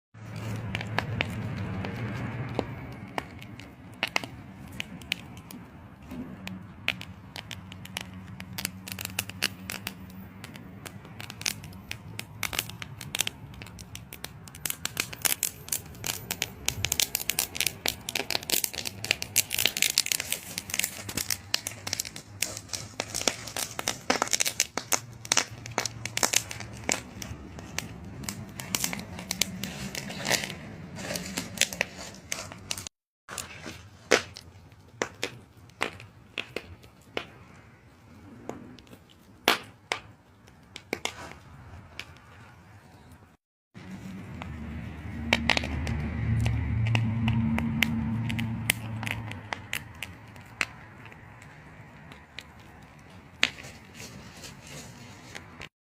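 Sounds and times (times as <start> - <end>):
corn stalks crackling and tearing: 0.2 - 37.4, 43.8 - 55.7.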